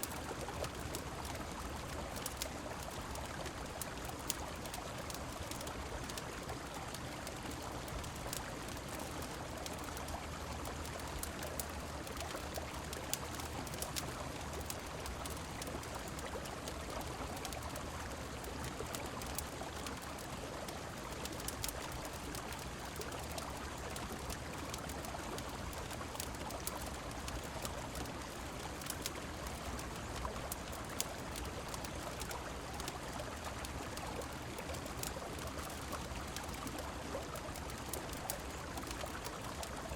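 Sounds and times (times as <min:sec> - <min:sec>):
rain falling: 0:00.0 - 0:39.9
wood fire crackling: 0:00.0 - 0:39.9.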